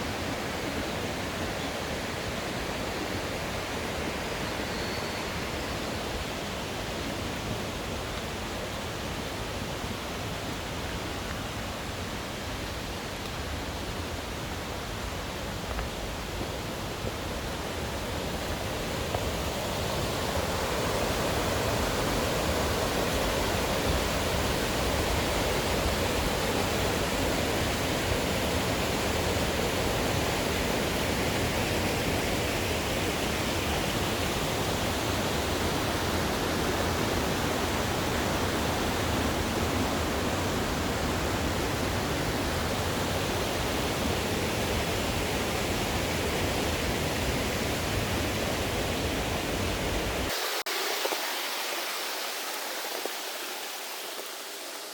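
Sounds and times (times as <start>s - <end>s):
rushing mountain stream: 0.0s - 54.9s.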